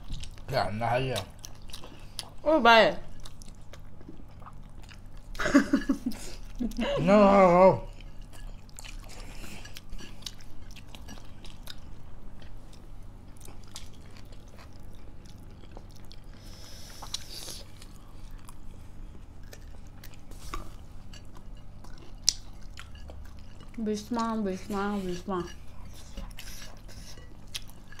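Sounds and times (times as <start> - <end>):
chewing and biting food: 0.0 - 2.4, 3.0 - 5.4, 7.8 - 28.0.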